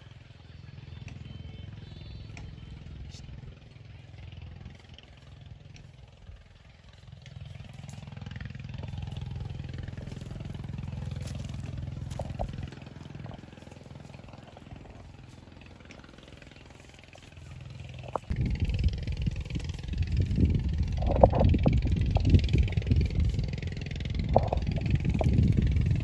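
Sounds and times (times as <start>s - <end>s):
engine puttering: 0.0s - 26.0s.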